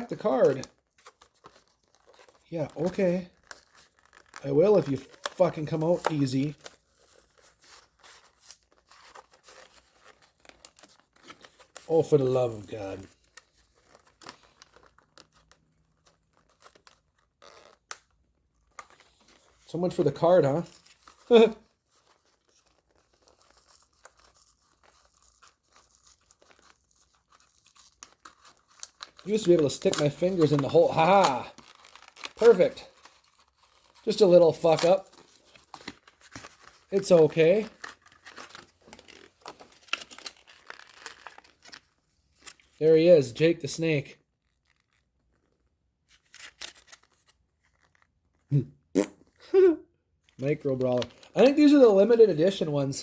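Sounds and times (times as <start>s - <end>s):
packaging crinkling and tearing: 0.0s - 42.8s, 43.7s - 48.3s, 50.4s - 52.7s.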